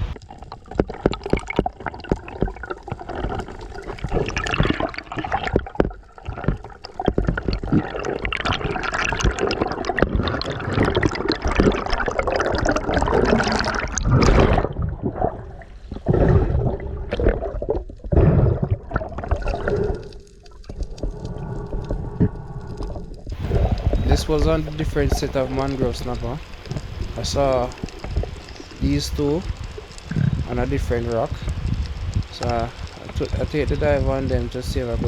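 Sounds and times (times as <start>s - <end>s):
water rushing and bubbling: 0.0s - 35.0s.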